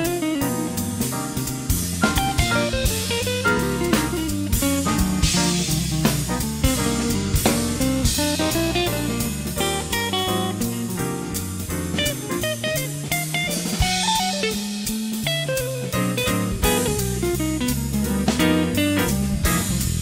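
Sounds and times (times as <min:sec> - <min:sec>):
drum kit steady beat: 0:00.0 - 0:20.0
plucked guitar: 0:00.0 - 0:20.0.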